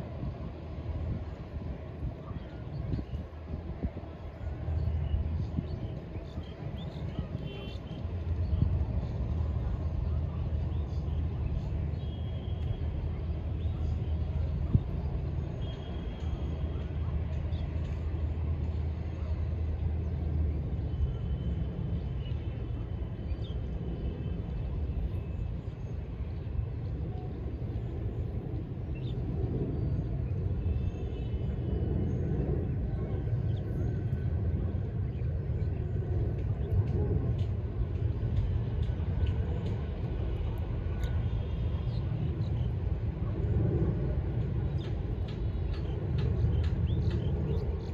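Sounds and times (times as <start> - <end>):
distant city traffic rumble: 0.0 - 47.9.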